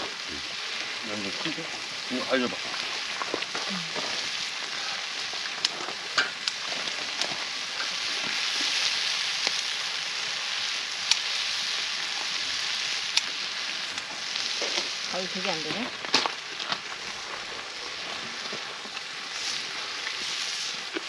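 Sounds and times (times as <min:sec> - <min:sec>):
pork sizzling on hot metal: 0:00.0 - 0:21.0.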